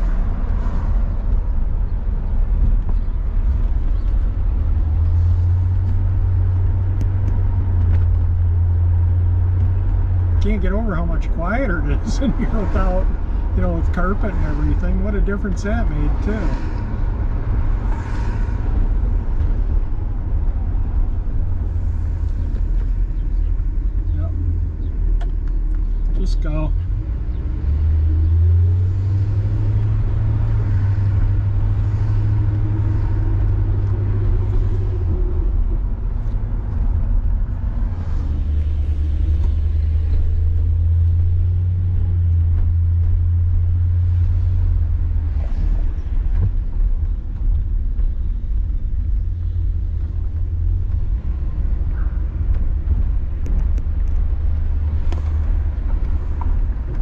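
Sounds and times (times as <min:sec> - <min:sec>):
car engine and road noise drone: 0:00.0 - 0:57.0.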